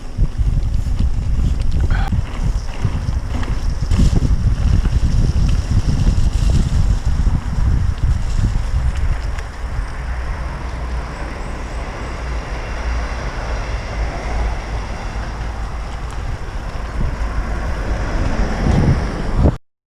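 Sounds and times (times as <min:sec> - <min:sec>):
bike tyre noise on trail: 0:00.0 - 0:19.6
wind rumble on microphone: 0:00.0 - 0:19.6.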